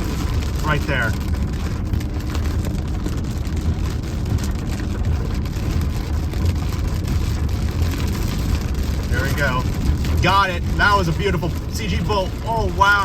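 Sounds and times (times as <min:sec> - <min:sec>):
rain ticking on car: 0:00.0 - 0:13.0
storm wind rumble on car: 0:00.0 - 0:13.0.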